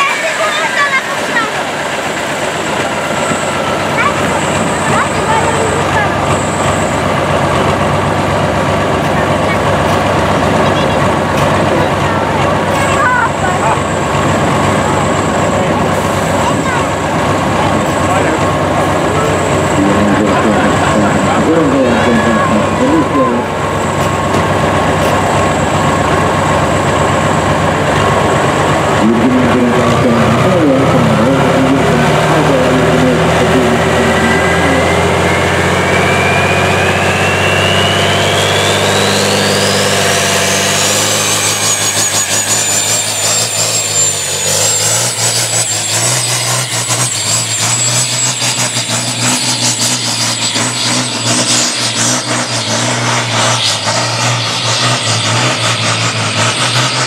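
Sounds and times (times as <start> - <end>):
diesel truck engine running hard: 0.0 - 57.0
turbocharger whine: 0.0 - 57.0.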